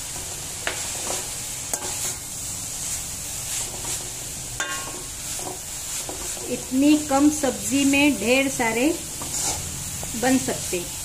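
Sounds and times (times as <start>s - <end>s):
metal spatula scraping a pan: 0.0s - 10.8s
oil sizzling: 0.0s - 11.0s.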